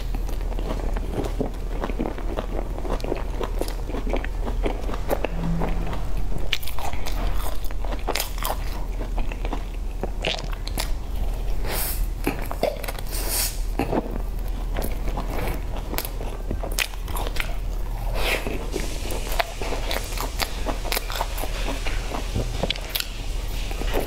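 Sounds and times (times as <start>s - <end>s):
biting and chewing crunchy pastry: 0.0s - 5.0s, 7.4s - 24.0s.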